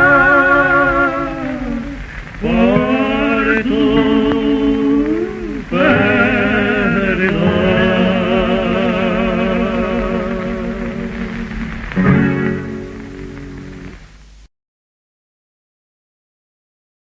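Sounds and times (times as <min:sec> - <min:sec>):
men singing with vibrato: 0:00.0 - 0:14.0
guitar accompaniment: 0:00.0 - 0:14.2.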